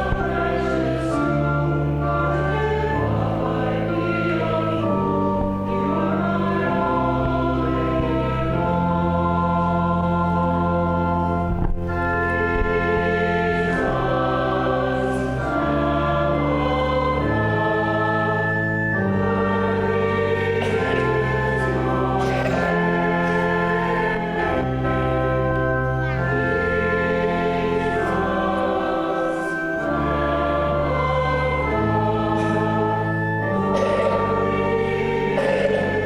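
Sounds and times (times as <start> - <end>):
congregation singing a hymn: 0.0 - 36.0
organ chords: 0.0 - 36.0.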